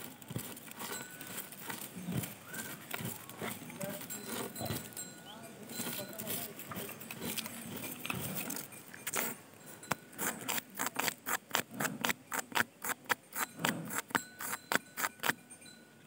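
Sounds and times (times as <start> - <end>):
rough scraping and rustling: 0.0 - 15.4.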